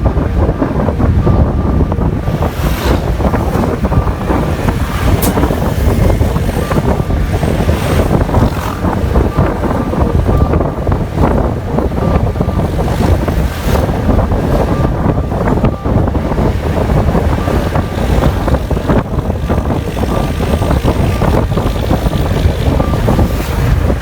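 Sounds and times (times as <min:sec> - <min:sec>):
loud wind buffeting microphone: 0:00.0 - 0:24.0
road vehicle rumble: 0:00.0 - 0:24.0.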